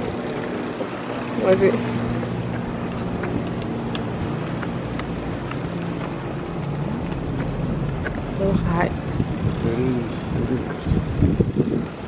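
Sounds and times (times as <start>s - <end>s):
motor vehicle engine hum: 0.0s - 12.0s.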